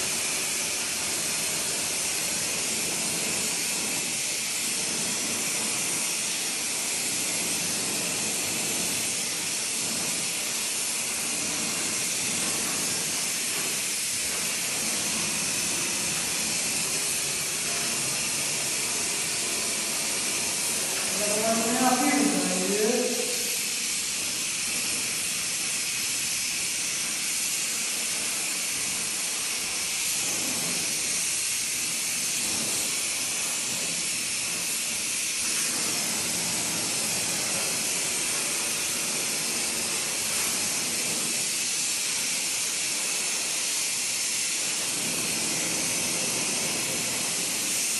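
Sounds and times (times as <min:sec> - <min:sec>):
torch flame hissing: 0:00.0 - 0:47.9.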